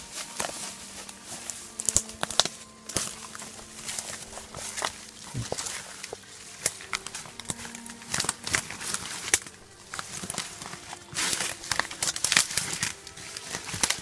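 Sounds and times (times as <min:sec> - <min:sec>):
footsteps through brush: 0:00.0 - 0:14.0
leaves rustling: 0:00.0 - 0:14.0
twigs crackling: 0:00.0 - 0:14.0.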